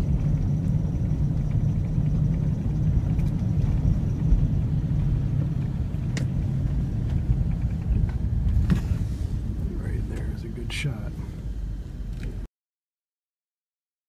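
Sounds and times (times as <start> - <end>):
engine and road rumble: 0.0 - 12.5.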